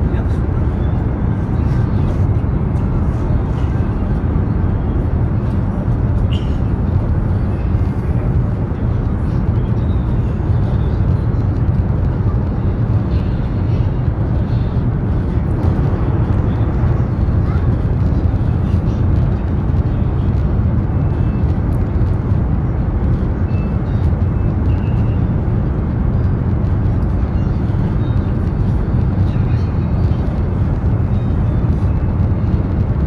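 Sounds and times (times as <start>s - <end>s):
train rumble from inside: 0.0s - 33.0s.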